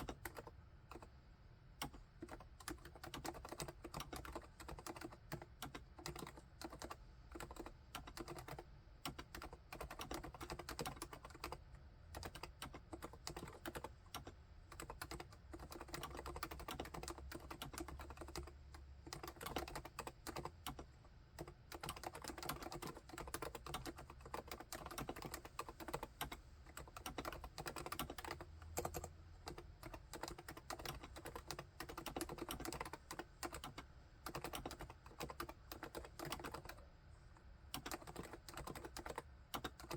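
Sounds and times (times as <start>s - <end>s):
typing on keyboard: 0.0s - 1.1s, 1.8s - 36.8s, 37.7s - 39.9s.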